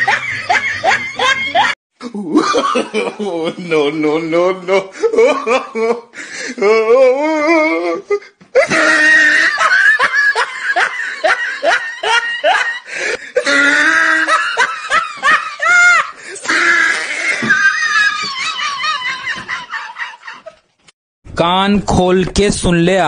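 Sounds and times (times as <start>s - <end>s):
hearty laughter: 0.0s - 6.2s, 8.1s - 20.7s.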